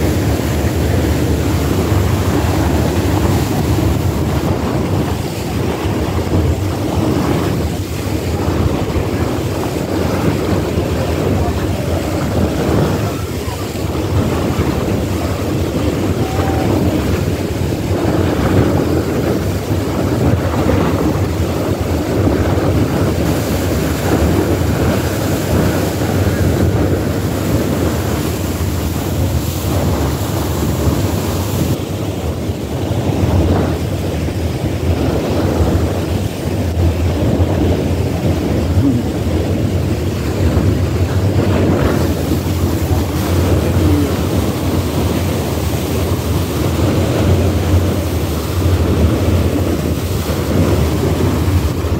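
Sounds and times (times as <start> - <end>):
boat running noise: 0.0 - 51.9
rushing water: 0.0 - 51.9
wind buffeting microphone: 0.0 - 51.9.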